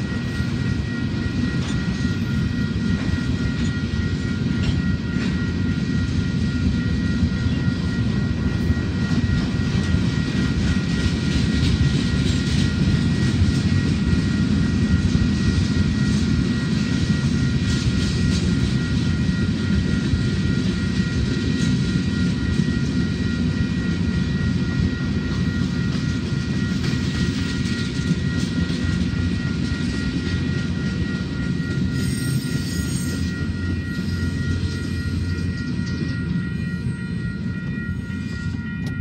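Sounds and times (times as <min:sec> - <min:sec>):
high-pitched whine: 0:00.0 - 0:39.0
steel wheels rumbling on rails: 0:00.0 - 0:39.0.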